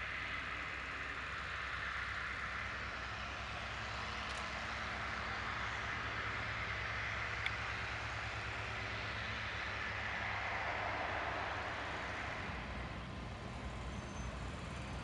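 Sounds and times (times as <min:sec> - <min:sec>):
distant piston aircraft engines: 0:00.0 - 0:15.0.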